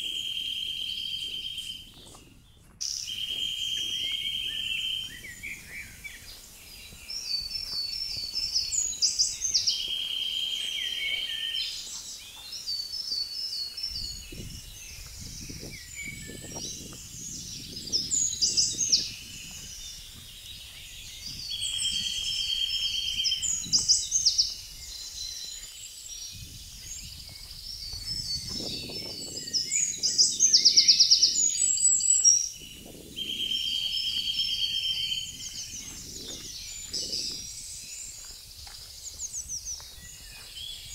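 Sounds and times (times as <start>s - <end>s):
songbirds trilling: 0.0s - 40.9s.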